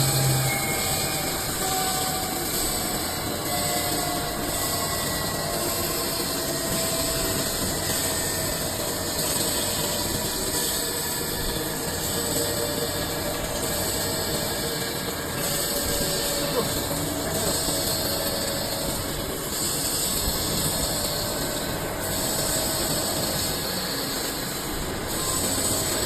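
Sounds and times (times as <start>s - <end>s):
faint whining tones: 0.0s - 26.0s
lathe machining noise: 0.0s - 26.0s.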